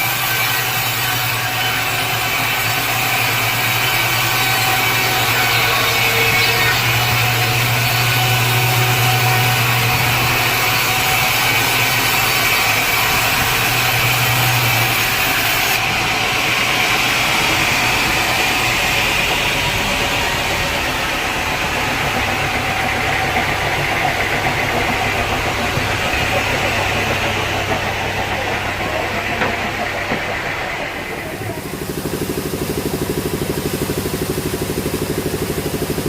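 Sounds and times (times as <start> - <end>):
sawmill machinery droning: 0.0 - 36.0.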